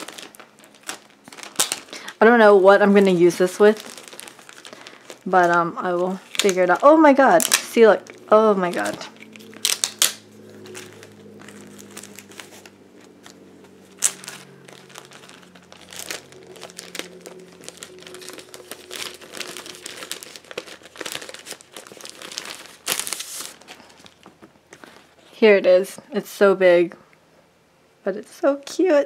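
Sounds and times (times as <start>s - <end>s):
plastic sleeve crinkling: 0.0s - 25.4s.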